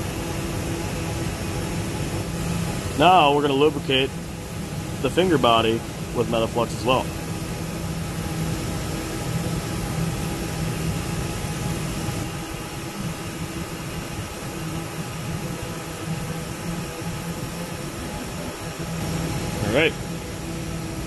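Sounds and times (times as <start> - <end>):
shop machinery hum and hiss: 0.0 - 21.0.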